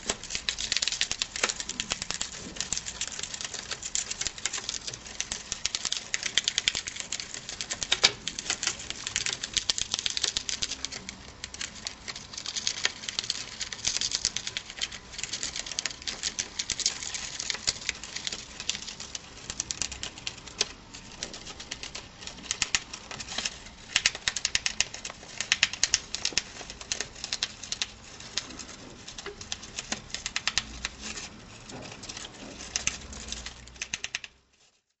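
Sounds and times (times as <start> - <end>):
gerbils gnawing chew toy: 0.0 - 34.9.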